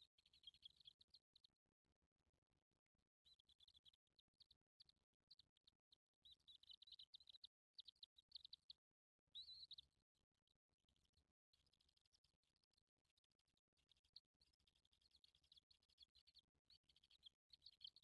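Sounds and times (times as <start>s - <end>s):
faint bird chirping: 0.0s - 1.6s, 3.2s - 10.0s, 10.9s - 18.0s.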